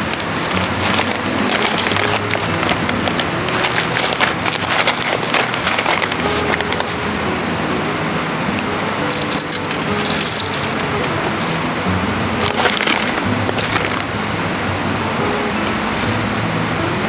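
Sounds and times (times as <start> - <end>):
handling noise: 0.0 - 7.2, 8.5 - 16.5
background music: 0.0 - 17.0.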